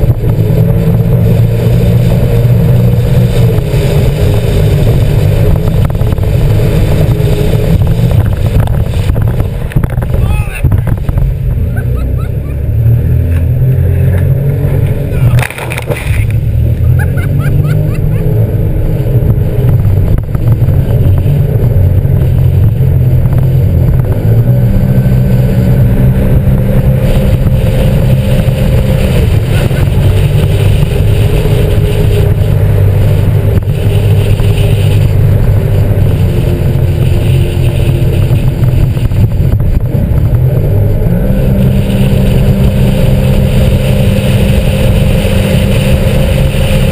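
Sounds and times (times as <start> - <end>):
personal watercraft engine drone: 0.0 - 46.9.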